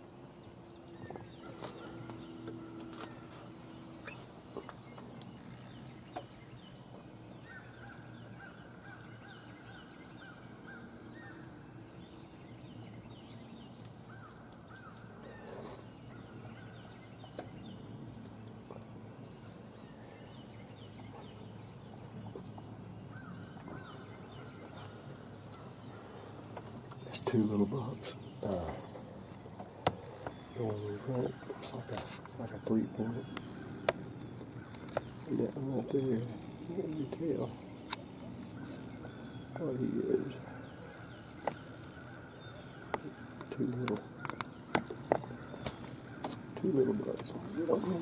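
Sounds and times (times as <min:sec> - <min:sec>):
bird calls: 0:00.0 - 0:48.0.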